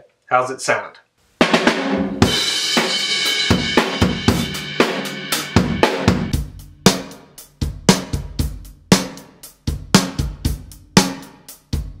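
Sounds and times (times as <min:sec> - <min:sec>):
drum kit groove: 0:01.4 - 0:12.0.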